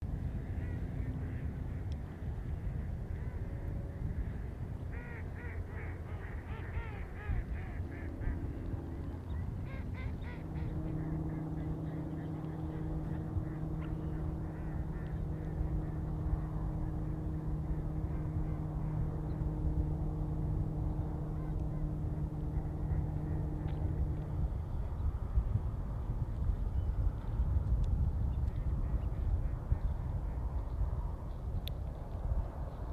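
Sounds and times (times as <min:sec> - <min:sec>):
steady engine hum: 0:00.0 - 0:32.9
steady low rumble: 0:00.0 - 0:32.9.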